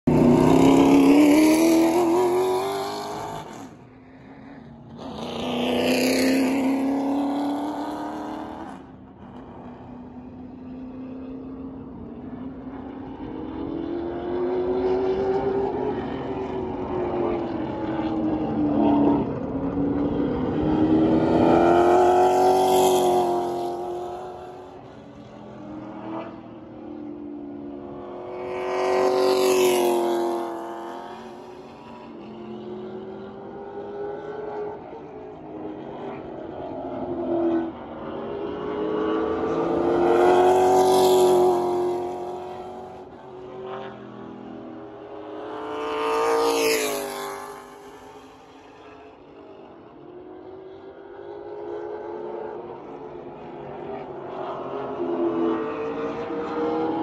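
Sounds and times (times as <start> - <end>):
race car engines passing: 0.0 - 57.0.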